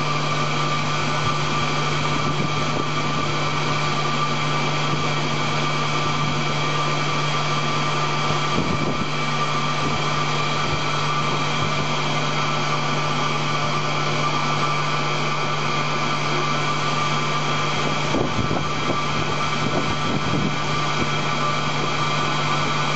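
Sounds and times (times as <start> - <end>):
mixer high whine: 0.0 - 22.9
mixer motor hum: 0.0 - 22.9.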